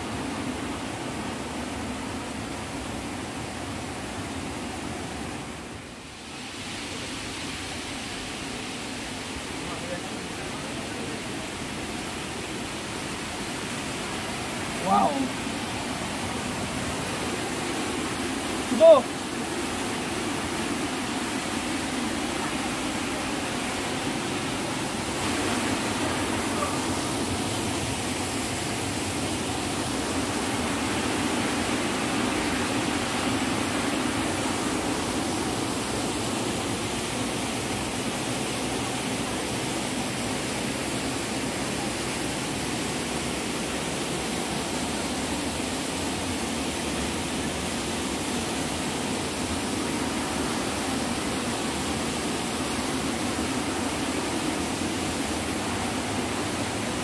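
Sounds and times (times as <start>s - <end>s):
waterfall pouring over rocks: 0.0s - 57.0s.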